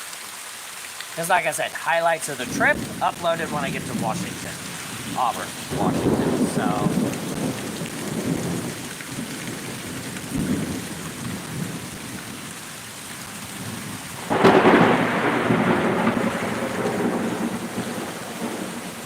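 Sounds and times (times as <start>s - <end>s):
rain falling: 0.0s - 19.0s
thunder rumbling: 2.0s - 12.6s, 13.3s - 19.0s
loud thunderclap: 2.5s - 12.4s, 13.6s - 19.0s.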